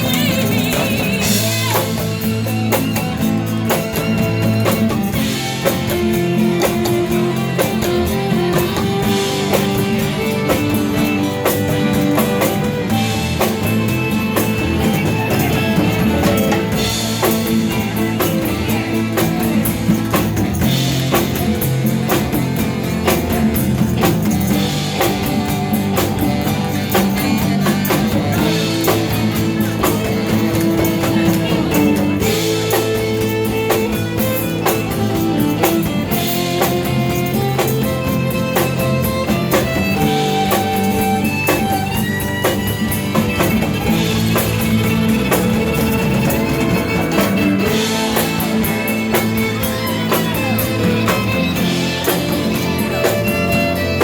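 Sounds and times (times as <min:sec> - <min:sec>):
drum kit steady beat: 0:00.0 - 0:54.0
electric guitar: 0:00.0 - 0:54.0.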